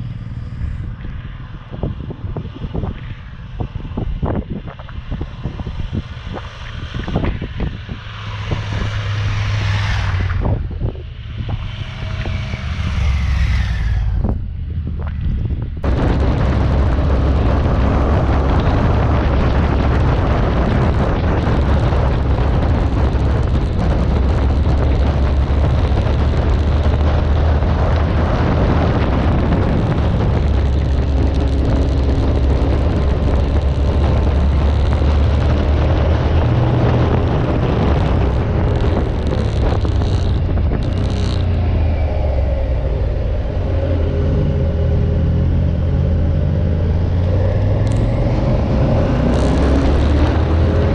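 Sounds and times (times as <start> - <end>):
motorcycle engine drone: 0.0 - 50.9
wind noise: 0.0 - 50.9.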